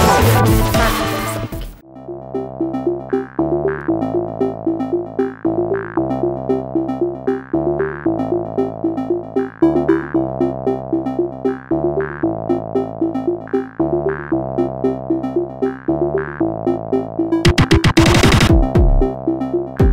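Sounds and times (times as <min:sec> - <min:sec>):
electronic synthesizer music: 0:00.0 - 0:19.9.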